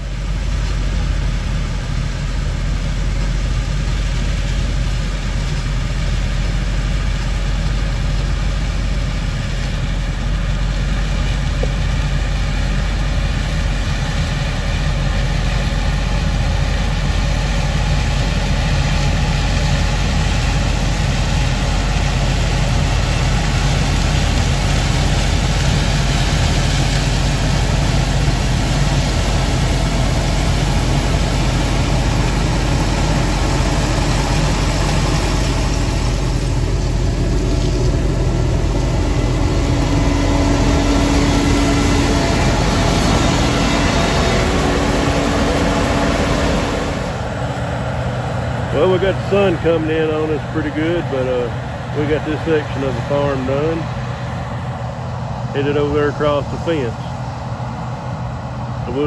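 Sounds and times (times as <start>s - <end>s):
combine harvester droning: 0.0s - 59.0s.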